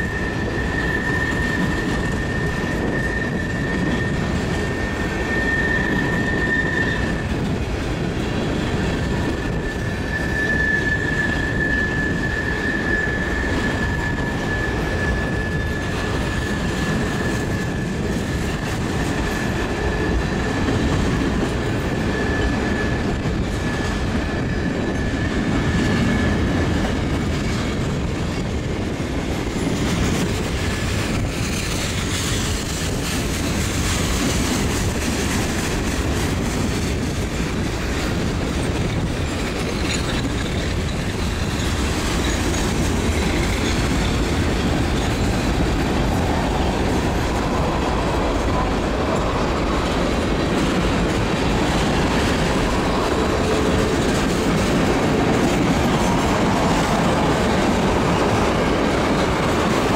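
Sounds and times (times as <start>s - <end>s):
freight train rumbling: 0.0s - 59.9s.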